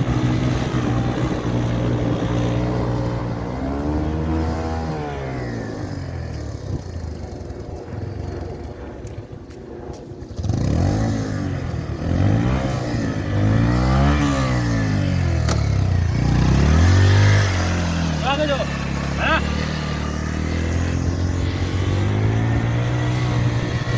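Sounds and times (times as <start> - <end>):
motorcycle engine revving: 0.0 - 9.2, 10.2 - 23.9.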